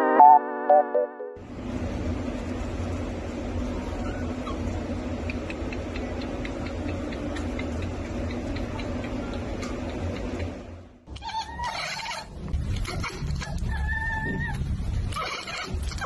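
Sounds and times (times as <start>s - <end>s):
background hiss and hum: 1.4s - 16.0s.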